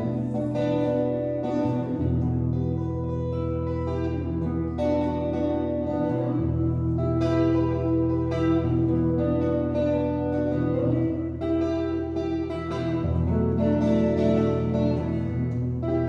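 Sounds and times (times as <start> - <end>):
solo guitar plucked notes: 0.0 - 16.0.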